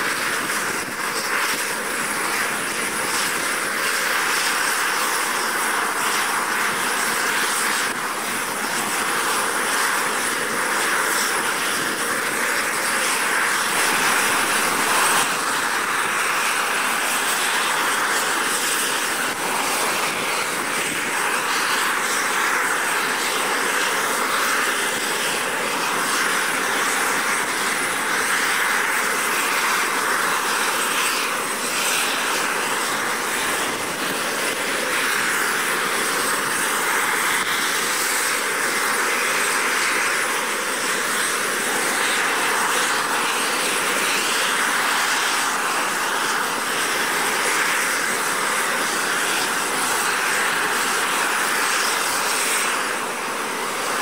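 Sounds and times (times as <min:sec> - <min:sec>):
high engine whine: 0:00.0 - 0:54.0
turboprop engines droning: 0:00.0 - 0:54.0.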